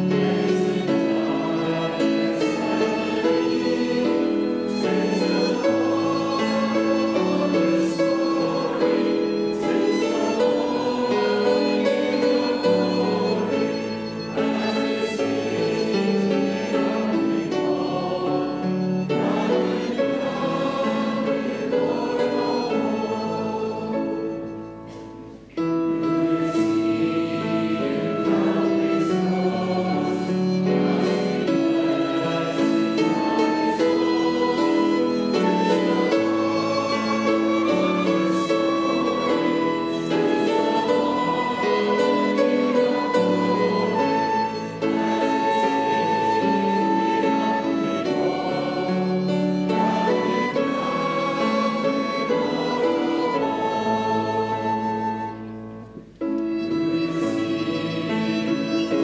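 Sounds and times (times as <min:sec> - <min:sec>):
congregation singing a hymn: 0:00.0 - 0:59.0
instrumental accompaniment: 0:00.0 - 0:59.0.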